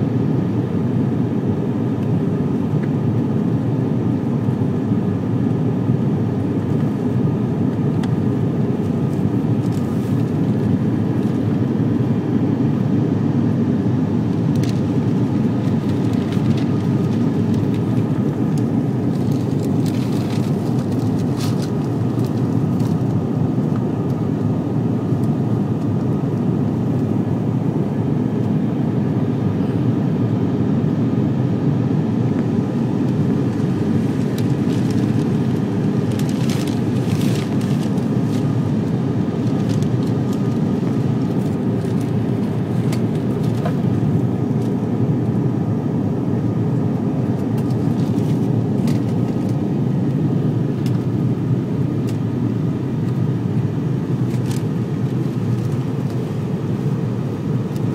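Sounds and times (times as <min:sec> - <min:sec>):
faint engine whine: 0:00.0 - 0:57.9
turboprop cabin drone: 0:00.0 - 0:57.9.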